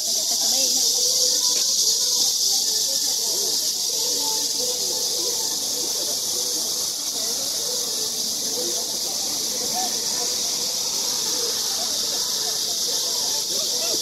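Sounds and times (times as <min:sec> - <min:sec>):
faint background voices: 0:00.0 - 0:14.0
steady high hiss: 0:00.0 - 0:14.0.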